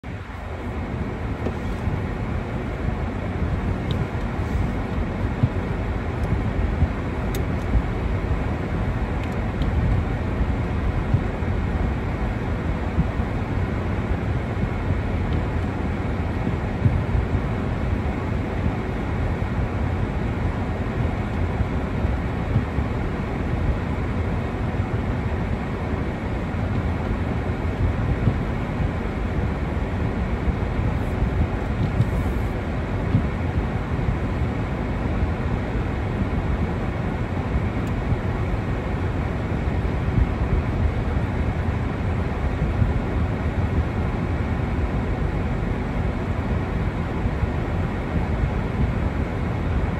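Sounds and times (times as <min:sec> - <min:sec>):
car driving on wet road: 0:00.1 - 0:45.5.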